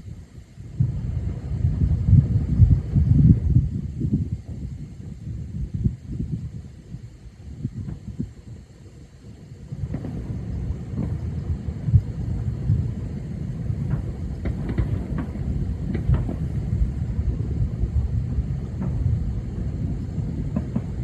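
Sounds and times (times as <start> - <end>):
distant fireworks rumble: 0.0 - 21.0
firework bangs and crackles: 0.7 - 21.0.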